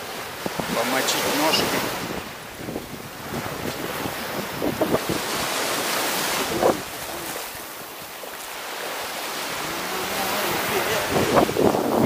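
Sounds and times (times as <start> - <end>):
small waves washing on beach: 0.0 - 12.0
wind buffeting microphone: 0.0 - 12.0.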